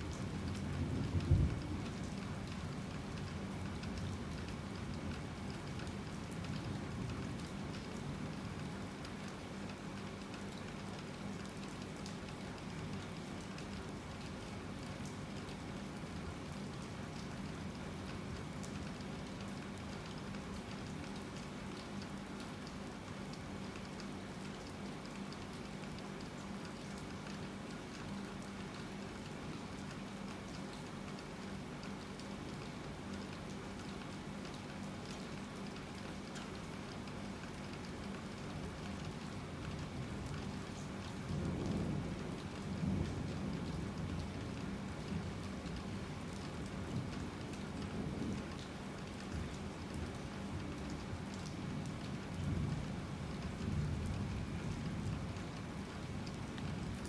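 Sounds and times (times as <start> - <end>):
rain drops ticking: 0.0 - 57.0.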